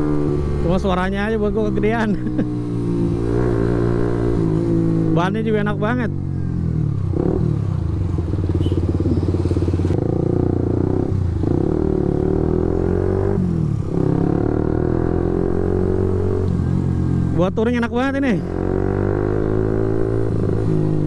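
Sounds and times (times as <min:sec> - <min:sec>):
motorcycle engine accelerating: 0:00.0 - 0:17.4, 0:18.2 - 0:21.0.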